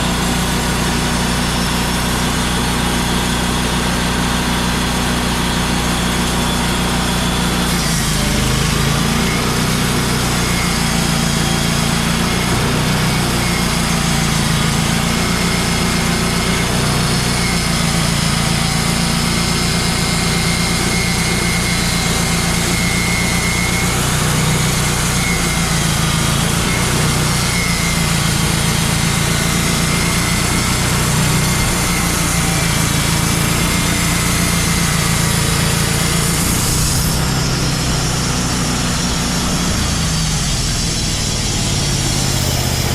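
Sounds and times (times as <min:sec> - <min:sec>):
sawmill engine running: 0:00.0 - 0:42.9.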